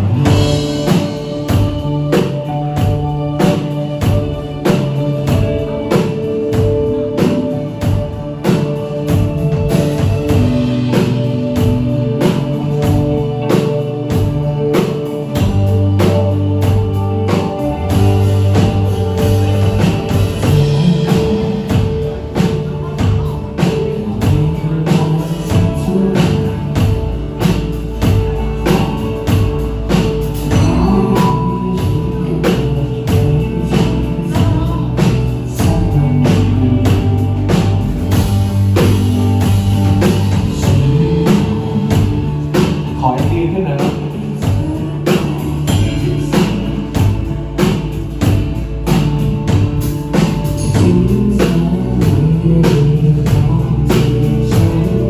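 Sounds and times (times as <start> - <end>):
bass line: 0.0 - 55.0
drum kit beat: 0.0 - 55.0
electric guitar: 0.0 - 55.0.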